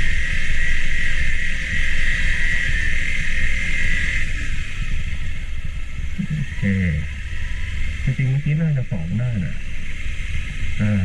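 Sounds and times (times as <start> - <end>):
high-pitched insect drone: 0.0 - 11.0
motorcycle engine rumbling: 0.0 - 11.0.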